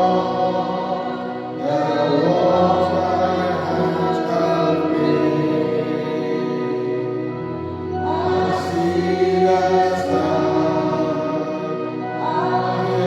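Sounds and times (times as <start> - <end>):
sustained instrumental chords: 0.0 - 13.0
voices singing gospel song: 0.0 - 13.0.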